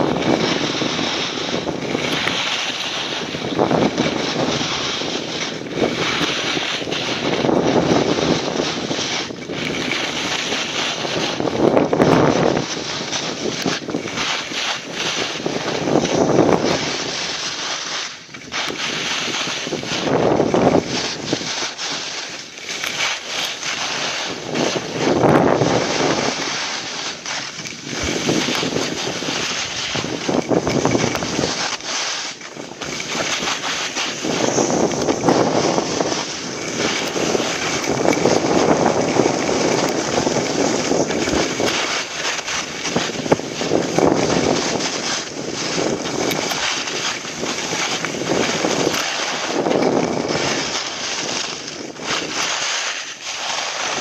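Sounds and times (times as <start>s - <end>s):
skis sliding on snow: 0.0s - 54.0s
wind rushing over microphone: 0.0s - 54.0s.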